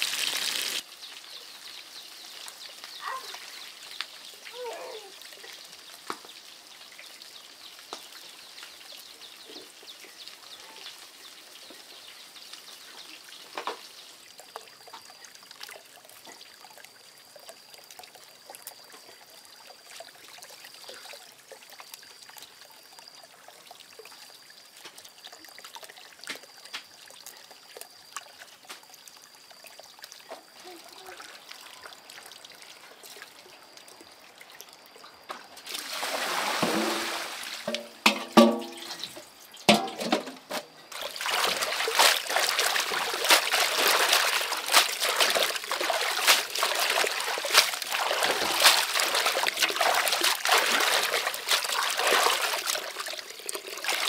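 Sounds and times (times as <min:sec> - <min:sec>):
water trickling: 0:00.0 - 0:54.0
small clicks and splashes: 0:00.8 - 0:36.7, 0:37.5 - 0:54.0.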